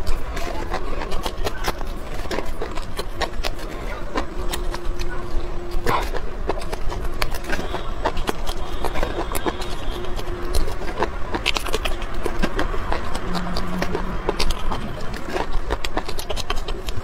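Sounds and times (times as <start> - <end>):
chili peppers crunching when chewed: 0.0 - 17.0.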